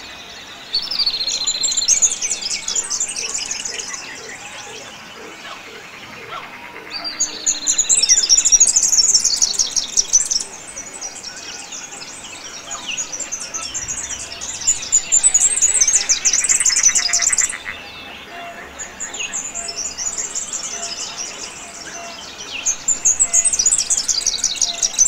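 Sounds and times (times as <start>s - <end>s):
birds chirping and trilling: 0.0s - 25.0s.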